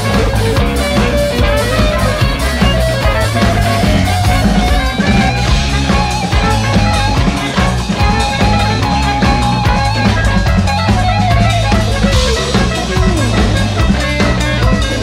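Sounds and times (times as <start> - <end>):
drum kit: 0.0 - 15.0
electric bass: 0.0 - 15.0
electric guitars: 0.0 - 15.0
trumpet: 0.0 - 15.0.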